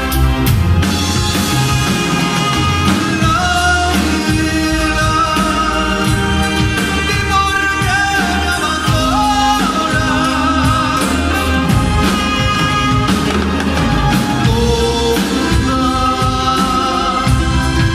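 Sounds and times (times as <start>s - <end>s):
bass and drum beat: 0.0s - 17.9s
person singing: 1.6s - 17.9s.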